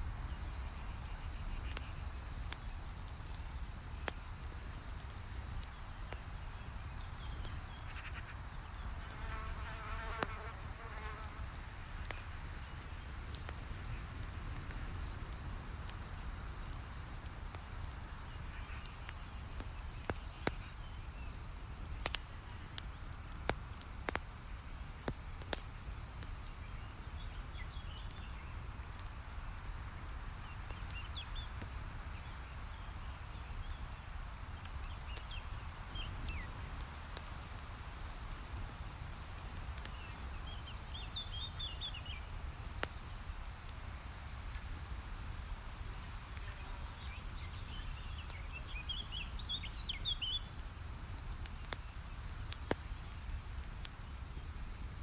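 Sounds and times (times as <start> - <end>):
fire popping: 0.0 - 55.0.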